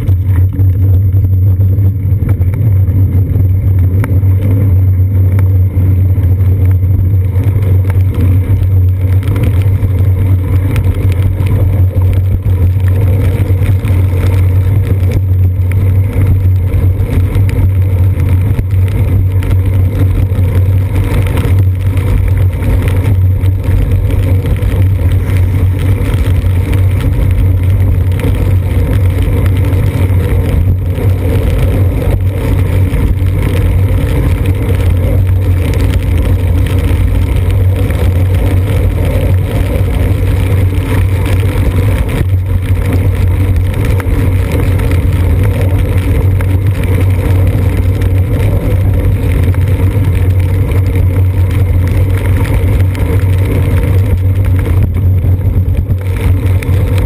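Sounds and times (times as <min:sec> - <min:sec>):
bicycle rumbling on wet pavement: 0:00.0 - 0:57.0
wind noise on camera: 0:00.0 - 0:57.0.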